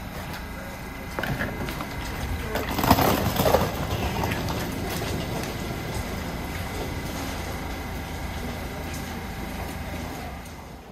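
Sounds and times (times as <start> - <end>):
subway train rumble: 0.0 - 10.9.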